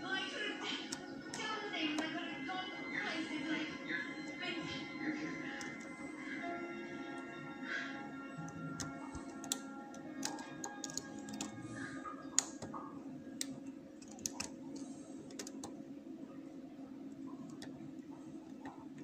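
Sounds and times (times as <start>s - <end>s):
faint background music: 0.0s - 19.0s
steady low hum: 0.0s - 19.0s.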